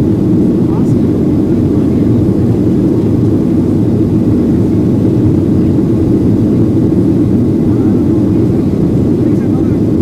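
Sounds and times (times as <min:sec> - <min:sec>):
airflow past the fuselage: 0:00.0 - 0:10.0
jet engines droning: 0:00.0 - 0:10.0.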